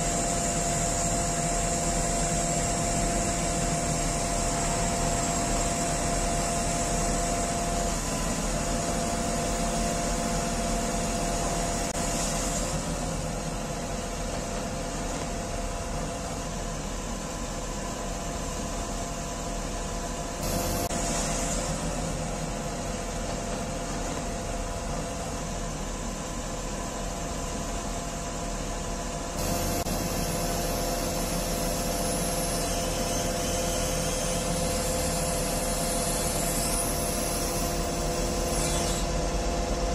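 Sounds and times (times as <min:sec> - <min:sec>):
hydraulic whine: 0:00.0 - 0:39.9.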